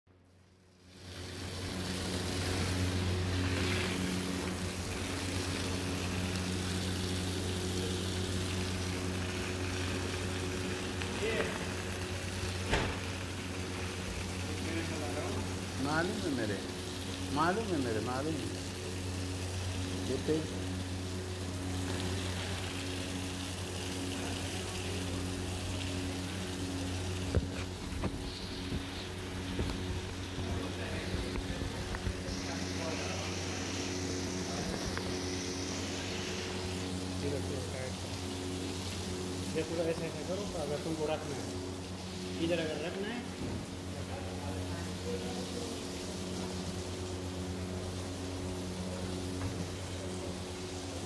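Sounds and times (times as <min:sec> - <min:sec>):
pressure washer motor hum: 0:00.2 - 0:51.0
water jet hissing: 0:00.4 - 0:51.0.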